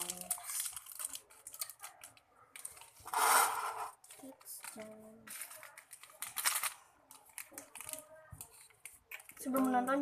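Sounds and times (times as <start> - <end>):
plastic sachets crinkling and tearing: 0.0 - 10.0.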